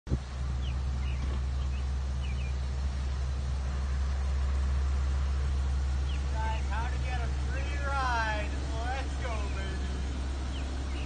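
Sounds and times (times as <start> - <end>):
vehicle engine droning: 0.1 - 11.0.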